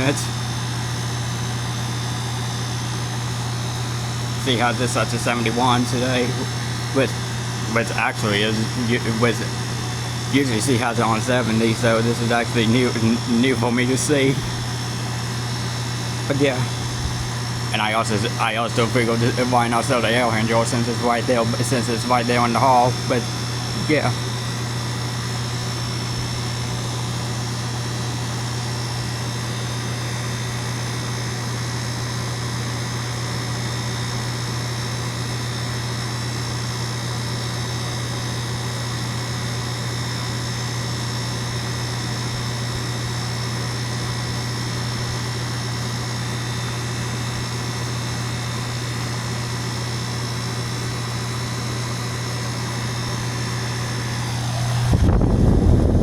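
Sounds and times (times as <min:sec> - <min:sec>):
air handler blower humming: 0:00.0 - 0:56.0.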